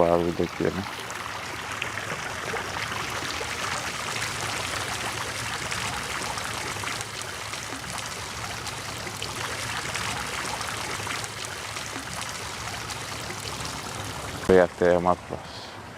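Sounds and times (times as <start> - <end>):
fountain water splashing: 0.0 - 15.8.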